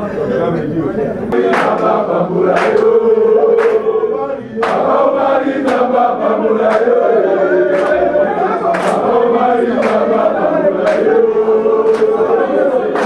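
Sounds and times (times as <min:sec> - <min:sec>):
men chanting in unison: 0:01.3 - 0:13.0.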